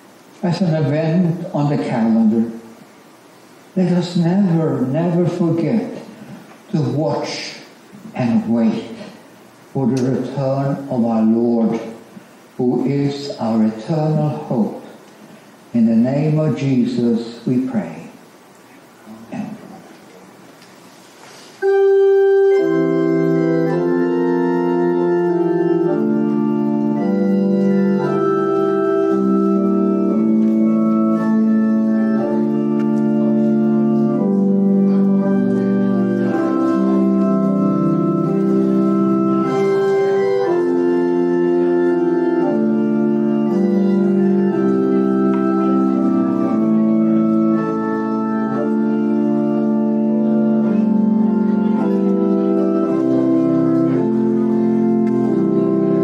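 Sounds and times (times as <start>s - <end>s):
organ playing chords: 0.0s - 18.2s, 21.6s - 56.0s.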